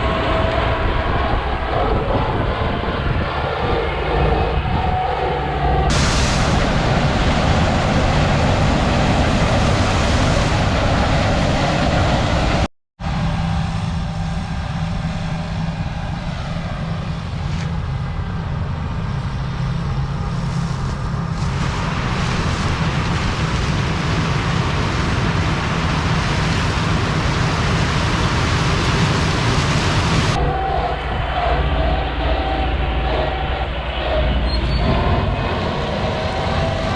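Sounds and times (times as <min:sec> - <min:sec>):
tractor engine running under load: 0:05.9 - 0:36.9.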